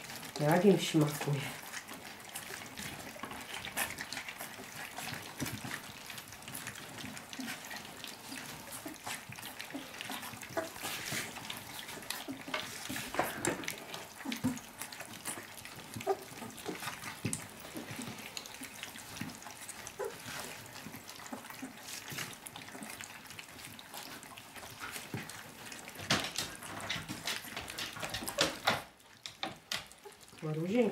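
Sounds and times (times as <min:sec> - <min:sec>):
puppies lapping and slurping food: 0:00.0 - 0:30.9.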